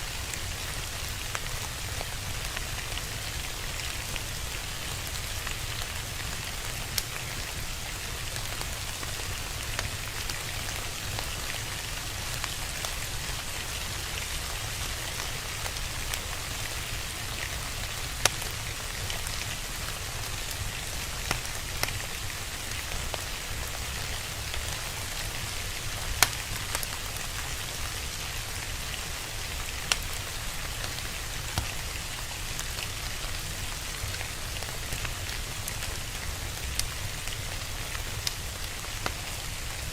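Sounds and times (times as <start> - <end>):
fire crackling and popping: 0.0 - 39.9
steady rain falling: 0.0 - 39.9.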